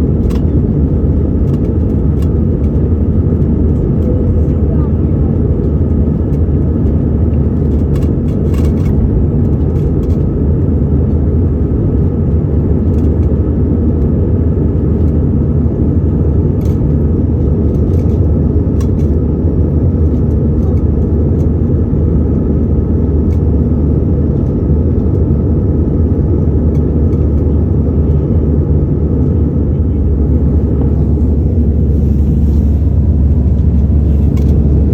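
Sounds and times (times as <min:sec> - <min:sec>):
jet engine rumble inside cabin: 0:00.0 - 0:34.9.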